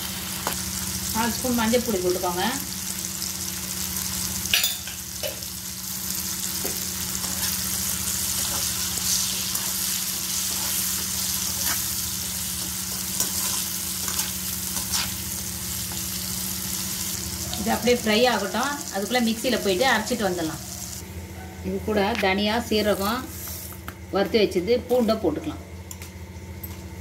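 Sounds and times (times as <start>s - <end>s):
vegetables sizzling in oil: 0.0s - 21.1s, 22.6s - 23.9s.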